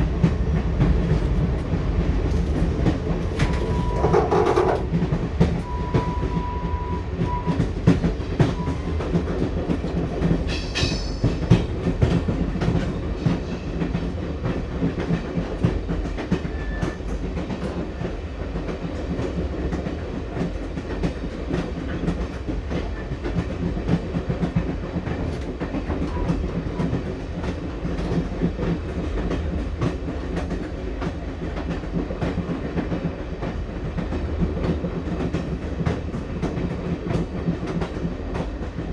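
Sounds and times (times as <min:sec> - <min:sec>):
low train rumble: 0:00.0 - 0:38.9
train wheels clacking on rails: 0:00.0 - 0:38.9.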